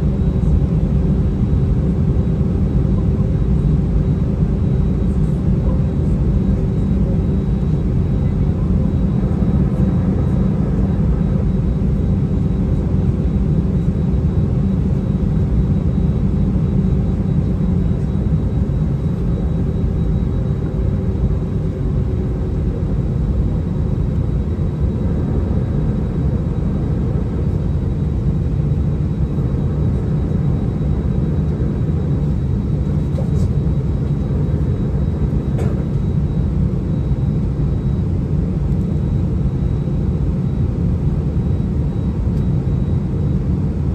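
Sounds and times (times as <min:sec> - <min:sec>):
jet engine rumble in cabin: 0:00.0 - 0:43.9.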